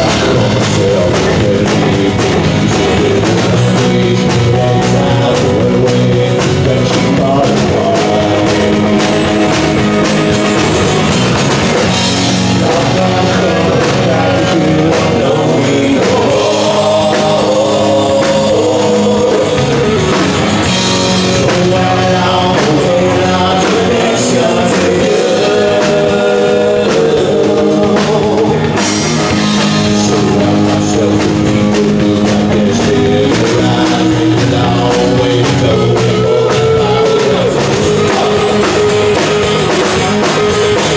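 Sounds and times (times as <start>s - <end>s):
person singing: 0.0s - 40.9s
rock band playing: 0.0s - 40.9s.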